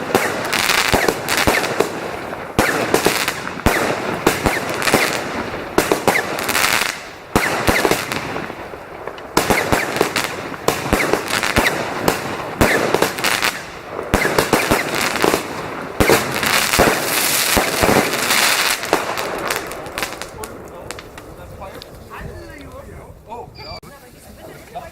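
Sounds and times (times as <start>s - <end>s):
fireworks banging and crackling: 0.0s - 24.2s.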